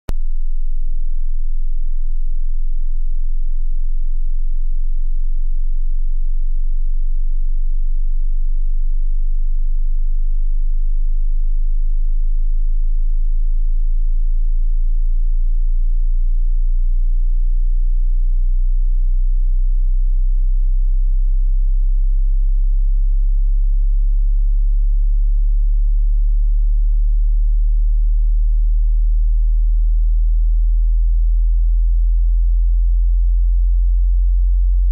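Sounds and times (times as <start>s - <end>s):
deep sine tone rising: 0.1s - 34.9s.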